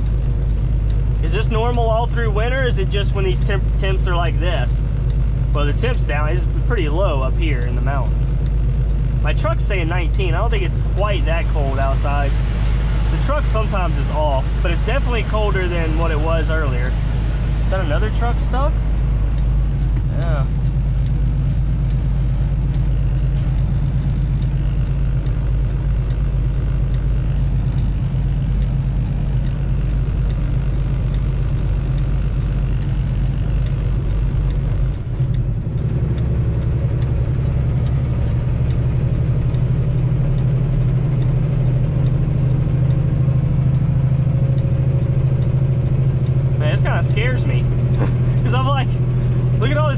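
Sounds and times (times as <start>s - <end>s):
diesel truck engine humming: 0.0s - 49.9s.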